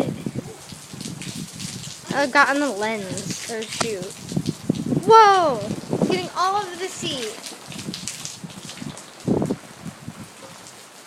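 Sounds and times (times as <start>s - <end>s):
rain spattering: 0.0s - 11.0s.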